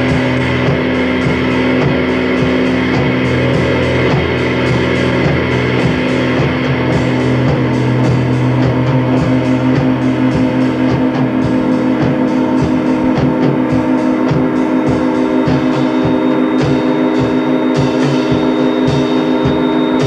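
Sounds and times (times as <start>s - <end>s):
droning hum: 0.0s - 20.0s
rock music guitar and drums: 0.0s - 20.0s
vacuum cleaner running: 0.0s - 20.0s.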